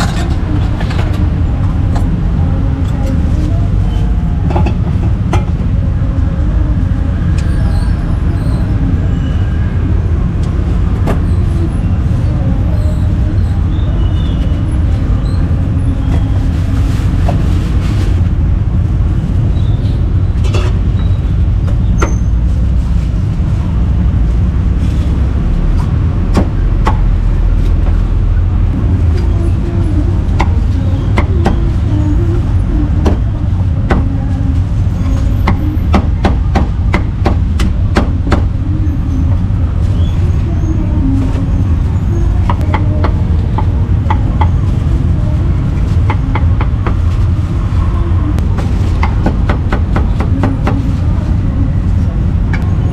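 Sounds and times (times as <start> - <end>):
low traffic rumble: 0.0 - 52.9.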